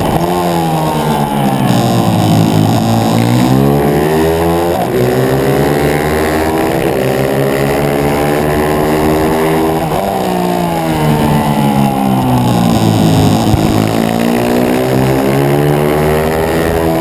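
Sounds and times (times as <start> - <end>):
motorbike engine at high revs: 0.0 - 17.0.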